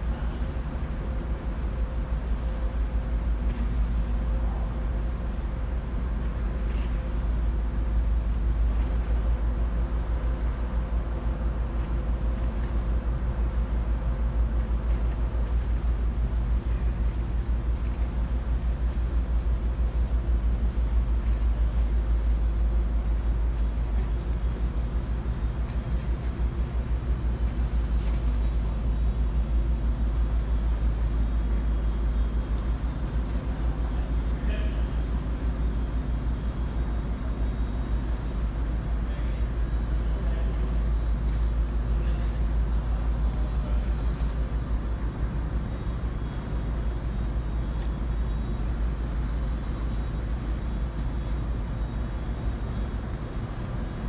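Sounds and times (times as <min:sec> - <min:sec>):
faint constant hum: 0:00.0 - 0:54.0
ship diesel machinery rumble: 0:00.0 - 0:54.0.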